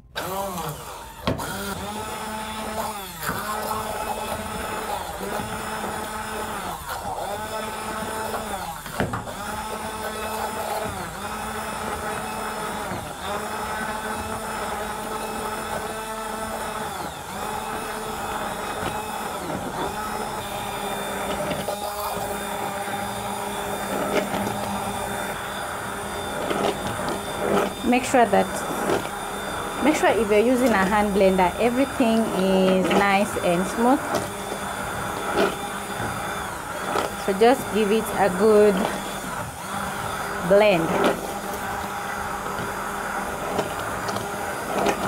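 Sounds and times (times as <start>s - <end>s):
immersion blender whining: 0.0s - 45.0s.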